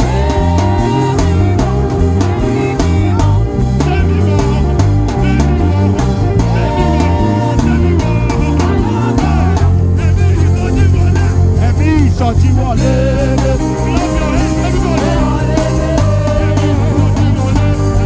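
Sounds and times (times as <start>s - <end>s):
bass: 0.0s - 18.0s
drum kit: 0.0s - 18.0s
guitar: 0.0s - 18.0s.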